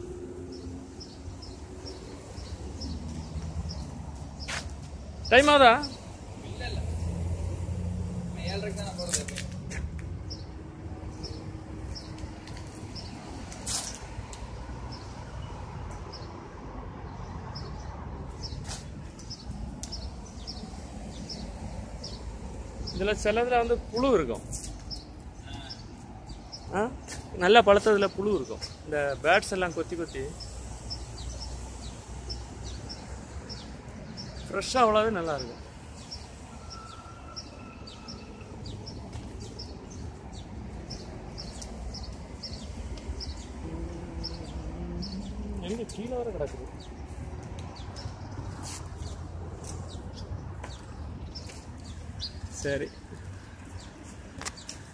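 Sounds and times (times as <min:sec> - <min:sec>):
small birds chirping: 0:00.1 - 0:06.8, 0:08.4 - 0:54.9.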